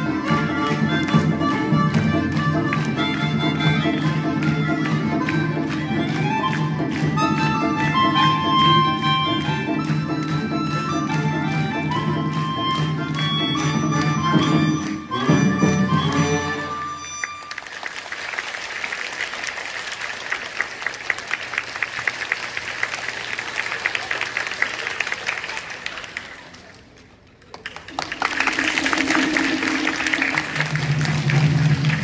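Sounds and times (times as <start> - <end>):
audience applause: 0.0 - 14.9, 16.1 - 32.0.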